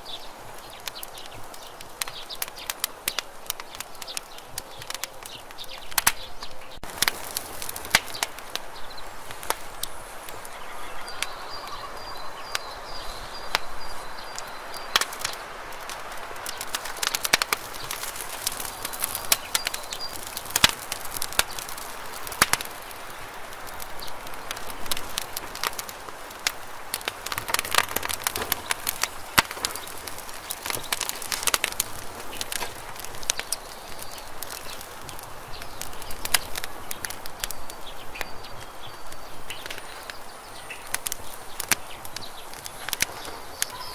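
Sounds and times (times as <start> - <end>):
hiss of flame: 0.0 - 43.8
fire crackling and popping: 0.0 - 43.9.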